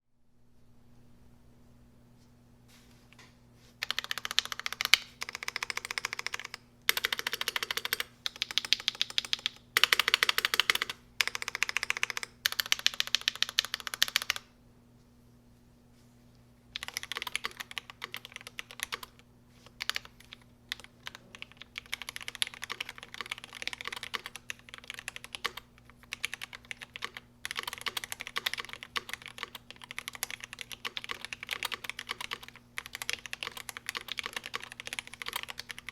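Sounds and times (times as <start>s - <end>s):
mechanical keyboard typing: 3.8s - 14.4s, 16.8s - 19.2s, 19.8s - 35.9s.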